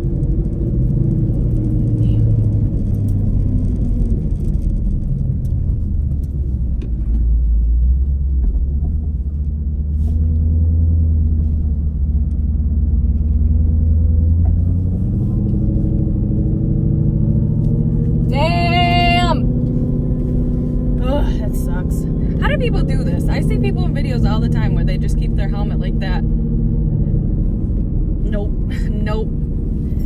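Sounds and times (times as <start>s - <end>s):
car engine deep rumble: 0.0s - 30.0s.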